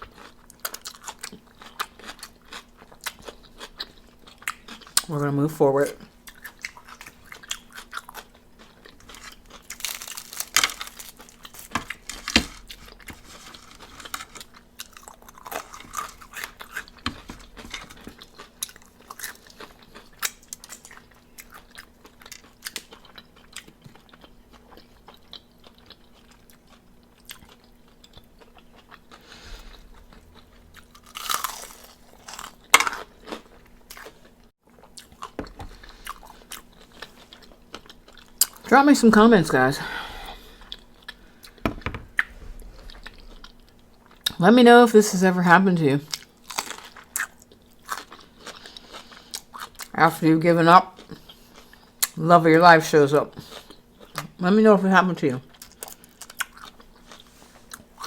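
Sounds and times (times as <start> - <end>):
crunching fried chicken: 0.0 - 44.4, 46.1 - 50.0, 55.4 - 58.0.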